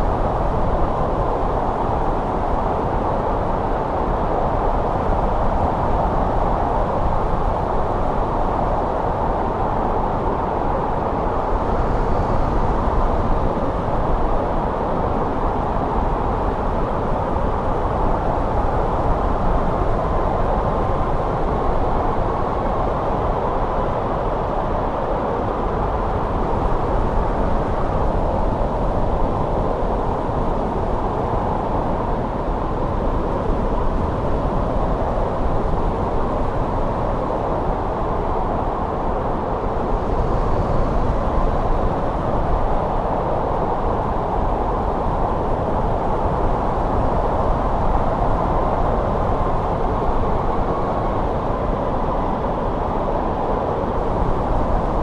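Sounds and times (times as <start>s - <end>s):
snowstorm wind rushing: 0.0s - 55.0s.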